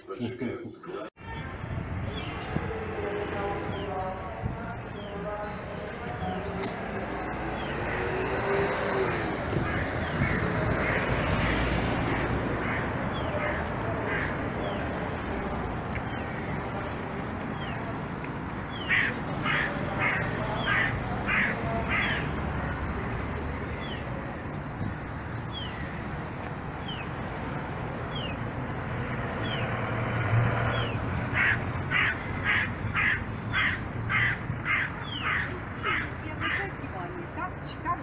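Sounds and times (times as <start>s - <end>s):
street traffic hum: 0.0s - 38.0s.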